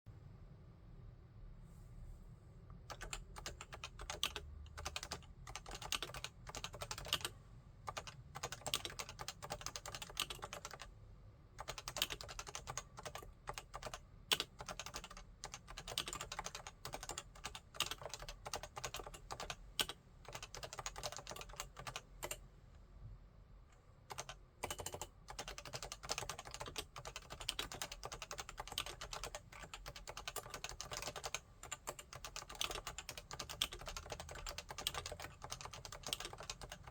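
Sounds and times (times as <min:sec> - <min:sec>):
keyboard typing: 0:02.9 - 0:07.3, 0:07.9 - 0:10.9, 0:11.6 - 0:22.4, 0:24.1 - 0:36.9.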